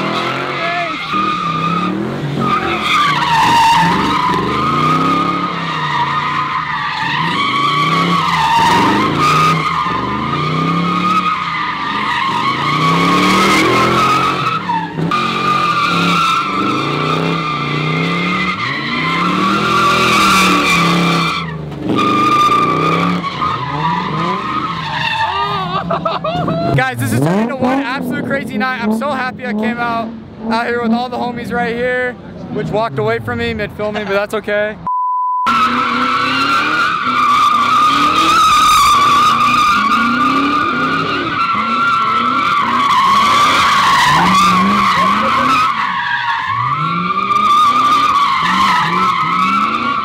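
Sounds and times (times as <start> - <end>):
tyres squealing: 0.0 - 28.2, 35.5 - 50.0
car engine revving: 0.0 - 34.2, 35.5 - 50.0.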